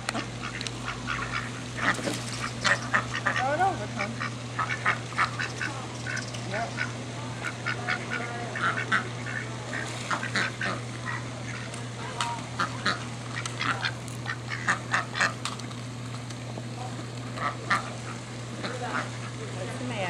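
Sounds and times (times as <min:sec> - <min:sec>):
ducks quacking: 0:00.0 - 0:19.6
steady low hum: 0:00.0 - 0:20.0.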